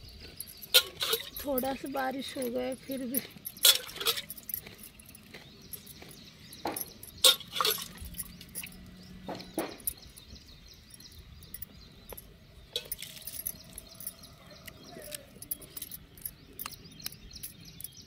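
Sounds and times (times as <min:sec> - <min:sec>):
bangles clinking on metal pot: 0:00.3 - 0:18.0.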